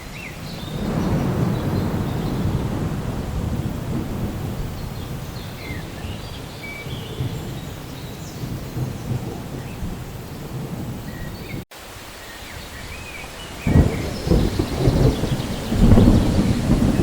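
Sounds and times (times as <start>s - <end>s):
rain hiss: 0.0s - 17.0s
thunder rumbling: 0.3s - 11.6s, 13.0s - 17.0s.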